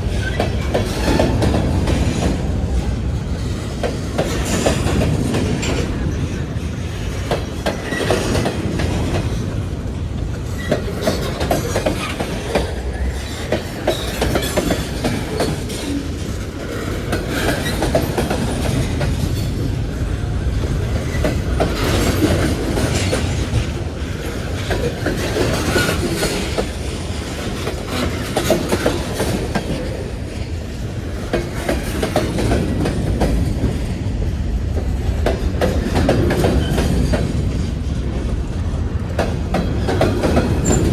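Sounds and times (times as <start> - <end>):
freight train rumbling: 0.0 - 40.9
wheels clicking over rail joints: 0.0 - 40.9.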